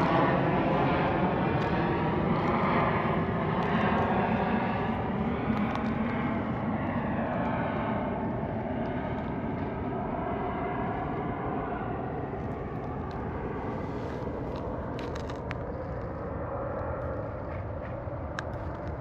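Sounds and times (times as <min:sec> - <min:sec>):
distant engine drone: 0:00.0 - 0:19.0.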